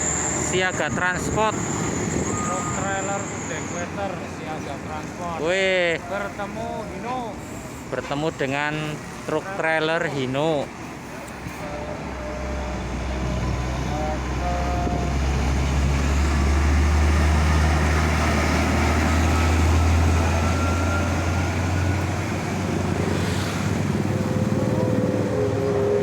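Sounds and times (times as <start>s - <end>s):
truck diesel engine passing: 0.0s - 9.8s, 10.6s - 26.0s.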